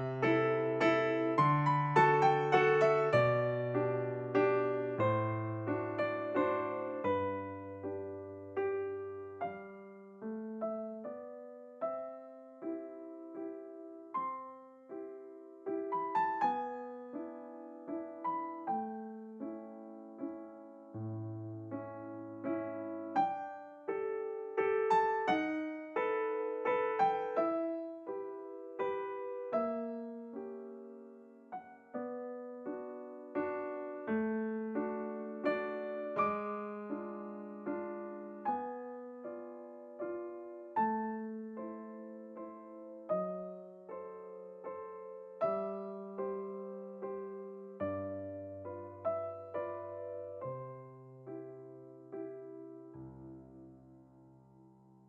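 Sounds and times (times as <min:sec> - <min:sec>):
gentle solo piano music: 0:00.0 - 0:55.0.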